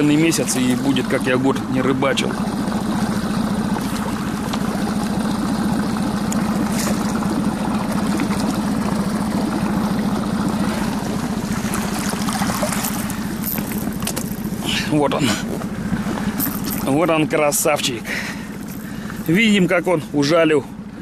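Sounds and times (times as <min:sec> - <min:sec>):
fish splashing water: 0:00.0 - 0:17.0, 0:18.1 - 0:19.3
outboard motor running: 0:00.0 - 0:21.0.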